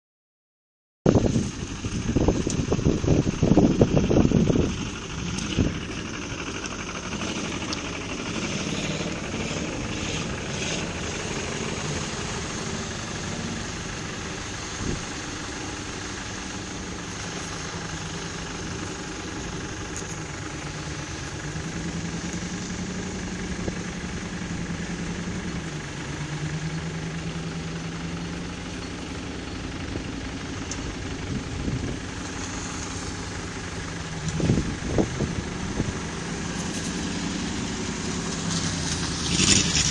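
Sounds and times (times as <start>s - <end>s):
off-road vehicle engine running: 1.1s - 39.9s.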